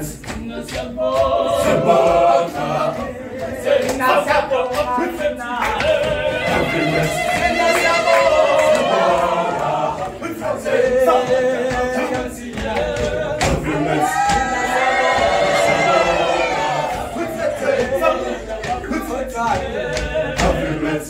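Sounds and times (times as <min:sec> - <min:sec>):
boys choir singing: 0:00.0 - 0:21.0.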